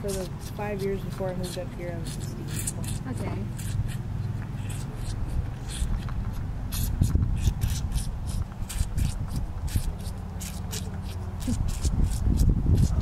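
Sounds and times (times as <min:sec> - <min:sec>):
calf sucking on bottle: 0:00.0 - 0:13.0.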